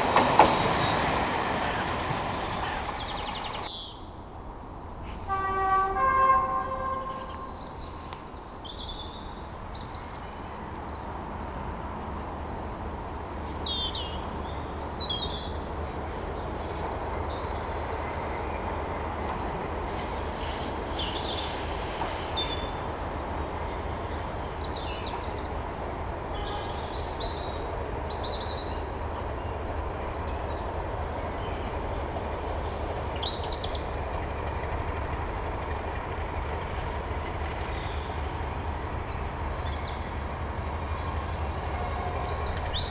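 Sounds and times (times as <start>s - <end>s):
birds chirping: 0.0s - 4.3s, 12.4s - 42.9s
distant diesel locomotive drone: 0.0s - 42.9s.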